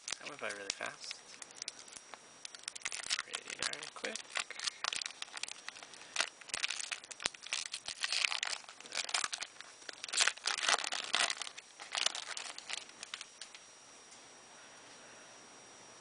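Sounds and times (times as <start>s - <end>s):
foil wrapper crinkling: 0.0s - 13.4s.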